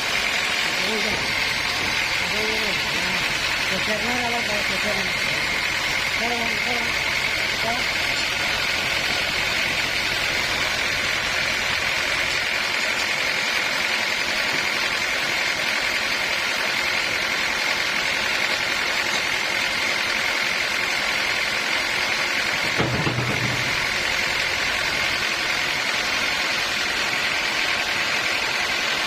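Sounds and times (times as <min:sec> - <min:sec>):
sawmill machinery humming: 0:00.0 - 0:29.0.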